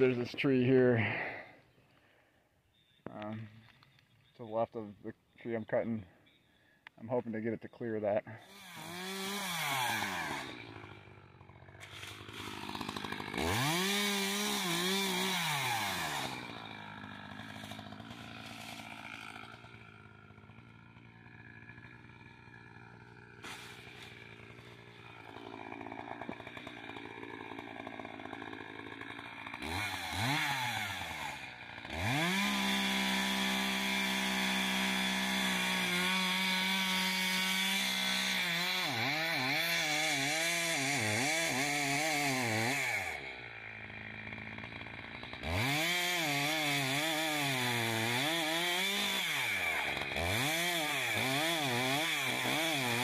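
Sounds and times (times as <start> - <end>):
chainsaw cutting wood: 8.3 - 53.0.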